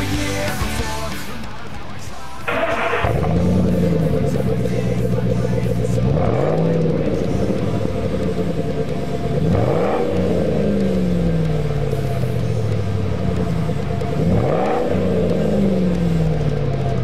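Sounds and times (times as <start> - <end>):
car engine revving: 2.4 - 17.0.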